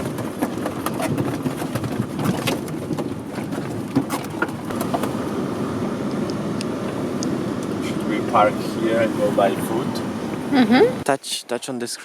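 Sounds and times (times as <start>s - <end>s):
truck engine rumble: 0.0s - 11.1s.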